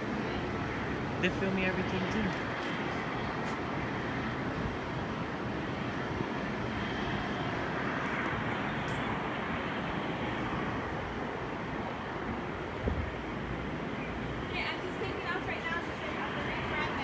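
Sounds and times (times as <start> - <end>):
distant jet airliner landing: 0.0 - 17.0.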